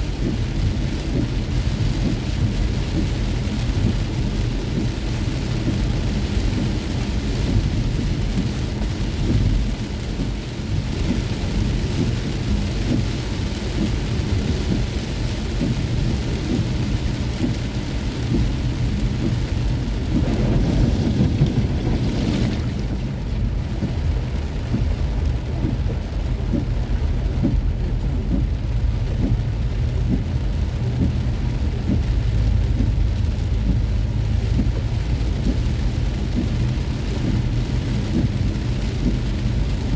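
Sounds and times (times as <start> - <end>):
heavy rain beating on car: 0.0 - 39.9.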